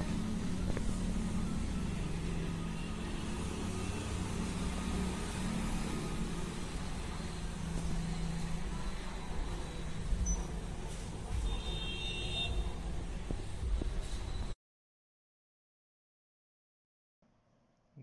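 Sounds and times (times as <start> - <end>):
street noise: 0.0 - 14.6.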